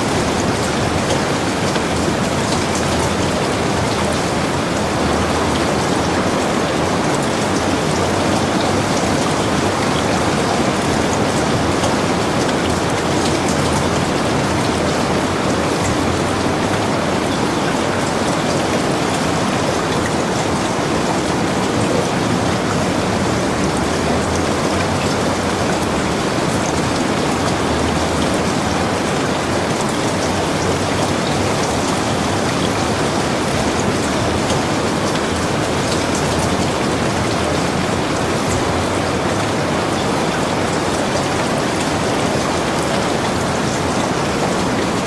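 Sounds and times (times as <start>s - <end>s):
raindrops ticking on surfaces: 0.0s - 45.0s.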